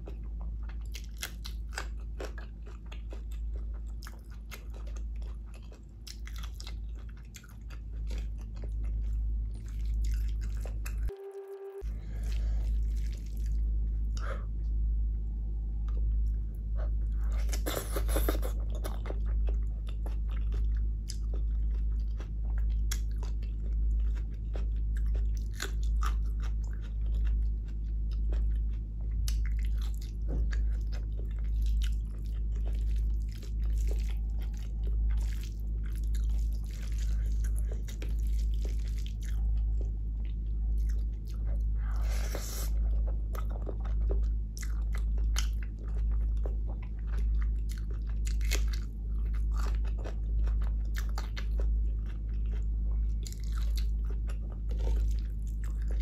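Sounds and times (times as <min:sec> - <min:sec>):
close chewing with mouth clicks: 0:00.0 - 0:11.1, 0:12.1 - 0:14.3, 0:15.8 - 0:56.0
steady low hum: 0:00.0 - 0:56.0.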